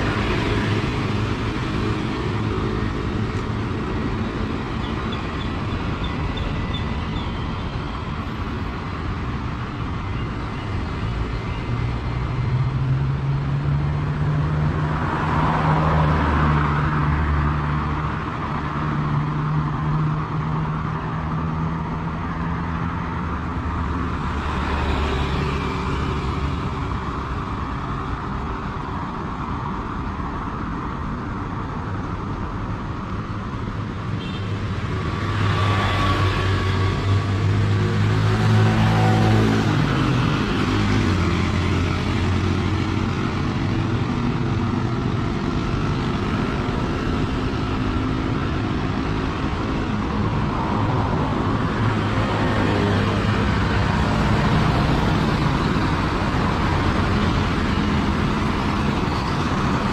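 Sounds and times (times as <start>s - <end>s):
cars and motorbikes passing: 0.0s - 59.9s
low traffic rumble: 0.0s - 59.9s.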